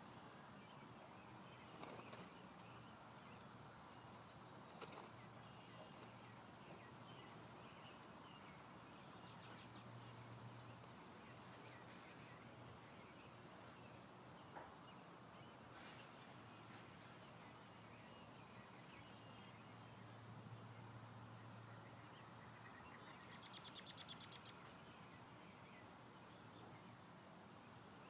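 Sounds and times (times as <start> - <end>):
soft bird chirps: 0.4 - 27.1.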